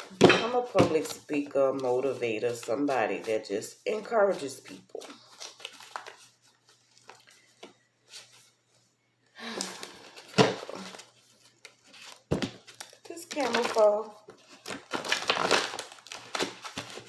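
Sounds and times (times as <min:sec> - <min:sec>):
cards rustling: 0:00.0 - 0:08.6, 0:09.5 - 0:17.0.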